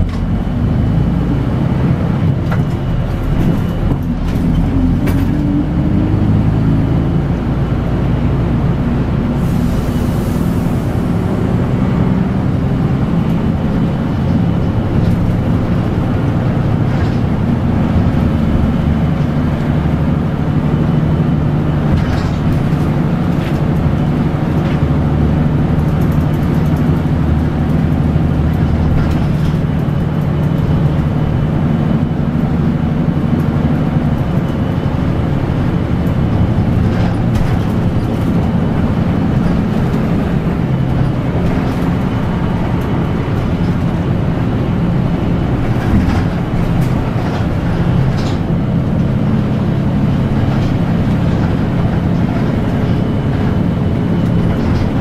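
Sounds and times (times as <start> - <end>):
bus engine hum and road noise: 0.0 - 55.0.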